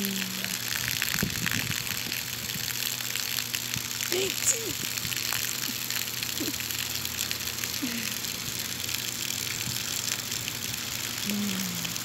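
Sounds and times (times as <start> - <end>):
water splashing into pond: 0.0 - 12.0.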